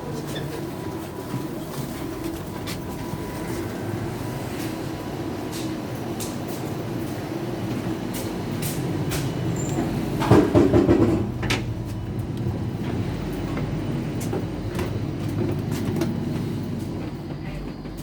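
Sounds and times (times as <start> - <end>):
train clatter: 0.0 - 18.0
train clicks and knocks: 0.0 - 18.0
train running: 0.0 - 18.0.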